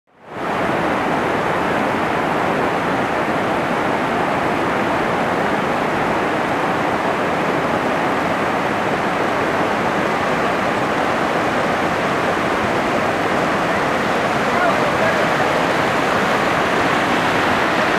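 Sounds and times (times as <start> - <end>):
whitewater rushing over weir: 0.2 - 17.9.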